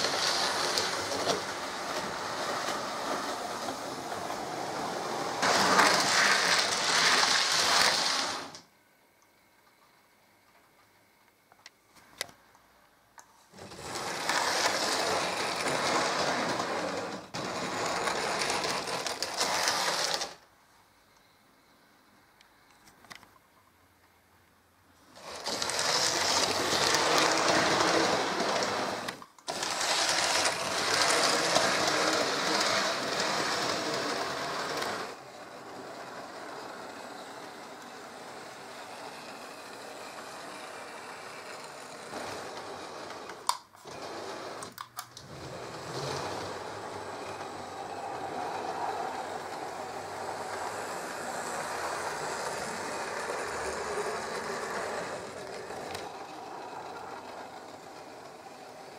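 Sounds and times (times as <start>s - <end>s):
model train motors whirring: 0.0s - 8.6s, 13.5s - 20.4s, 25.0s - 58.9s.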